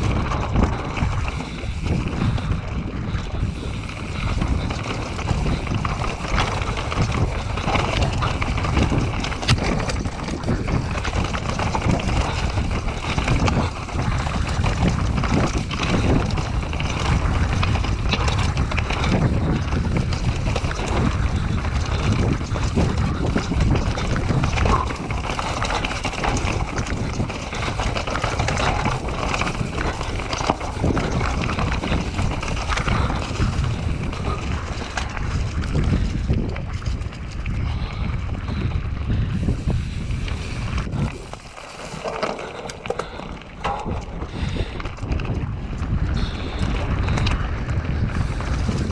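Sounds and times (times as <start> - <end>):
bike rattling: 0.0 - 48.9
bike tyres rolling over stones: 0.0 - 48.9
wind on microphone: 0.0 - 48.9.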